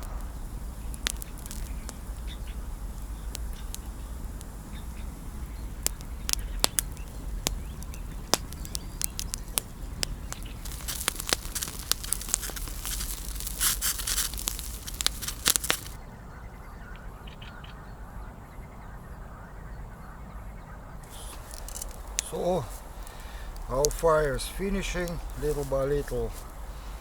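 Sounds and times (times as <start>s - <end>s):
fire hissing: 0.0s - 16.0s, 21.0s - 27.0s
fire popping: 0.0s - 16.0s, 21.0s - 27.0s
campfire crackling: 0.0s - 17.0s, 21.0s - 27.0s.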